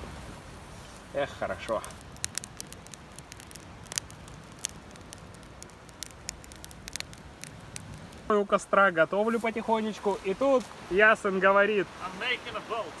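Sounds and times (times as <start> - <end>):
campfire crackling and popping: 0.0 - 10.9.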